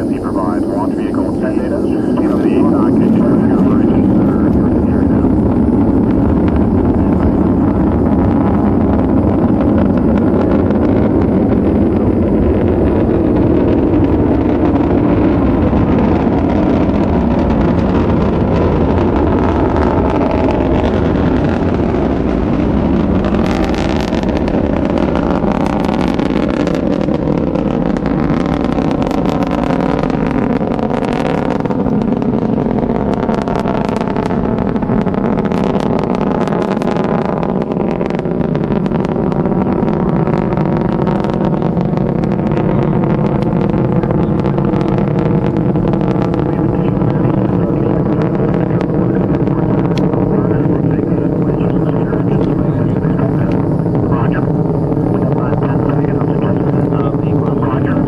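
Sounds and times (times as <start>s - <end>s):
rocket engine roar: 0.0s - 58.0s
sharp crackling: 0.0s - 58.0s.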